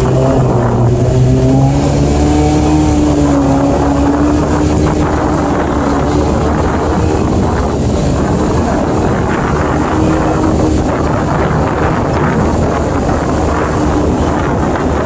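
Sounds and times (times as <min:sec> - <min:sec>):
vehicle engine drone: 0:00.0 - 0:15.0
wind rushing over microphone: 0:00.0 - 0:15.0.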